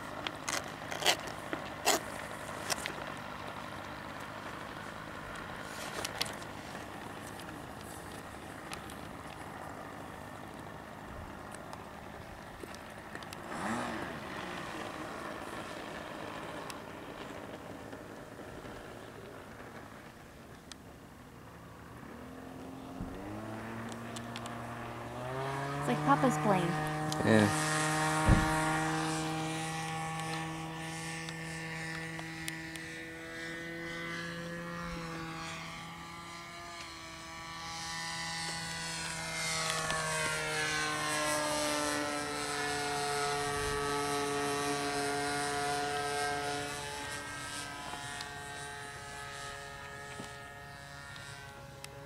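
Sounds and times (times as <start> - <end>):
model airplane engine droning: 0.0 - 52.0.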